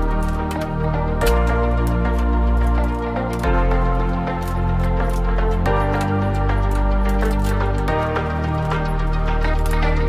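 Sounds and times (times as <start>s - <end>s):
electronic music with synth chords: 0.0s - 10.0s.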